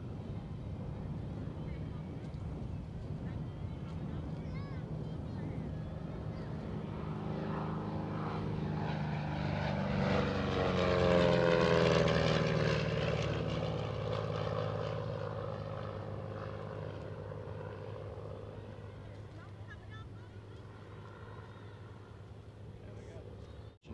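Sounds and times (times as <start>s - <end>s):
propeller airplane flying past: 0.0s - 23.9s.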